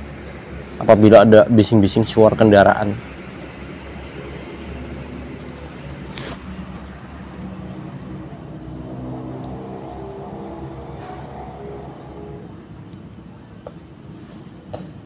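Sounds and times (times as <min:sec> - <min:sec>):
engine drone: 0:00.0 - 0:13.8
traffic rumble: 0:00.0 - 0:15.0.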